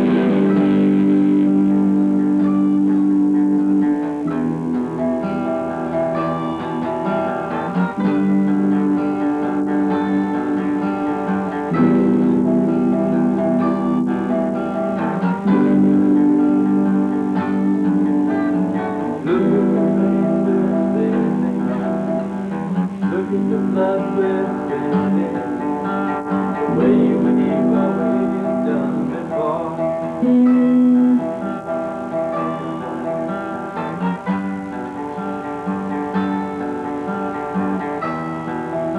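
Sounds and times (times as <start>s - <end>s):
acoustic guitar playing: 0.0s - 38.9s.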